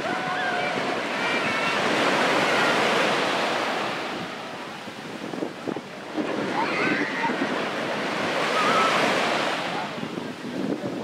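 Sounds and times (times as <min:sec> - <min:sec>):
surf washing up a sandy beach: 0:00.0 - 0:11.0.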